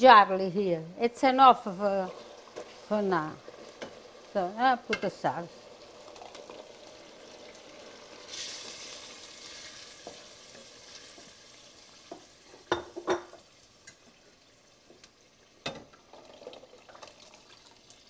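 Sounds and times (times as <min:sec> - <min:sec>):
meat sizzling in a pot: 0:01.0 - 0:18.0.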